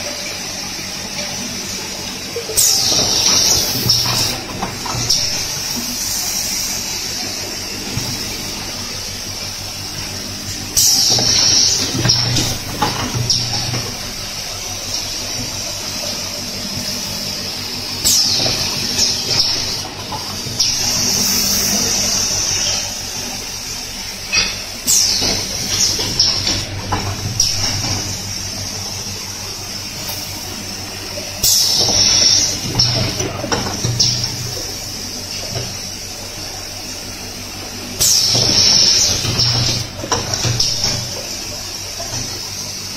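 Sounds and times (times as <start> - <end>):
machine mechanical hum: 0.0 - 42.9.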